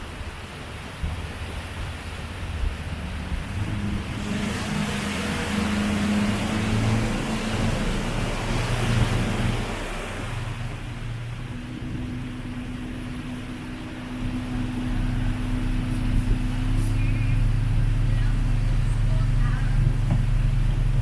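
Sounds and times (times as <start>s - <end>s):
boat motor humming: 0.0s - 21.0s
rushing water and wind: 0.0s - 21.0s.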